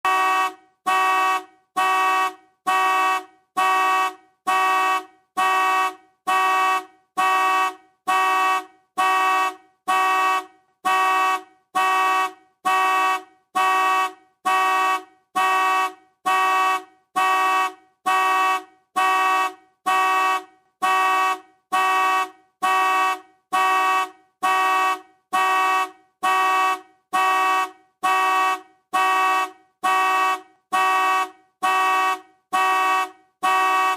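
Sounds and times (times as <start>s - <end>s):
car horn honking: 0.0s - 33.9s.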